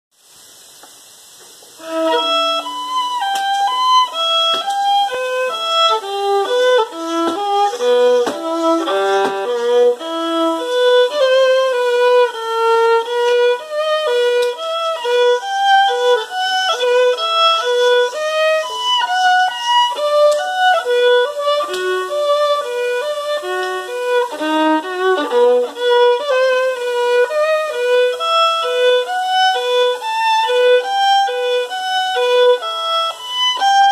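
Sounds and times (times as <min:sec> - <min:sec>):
violin melody: 0:01.8 - 0:33.9.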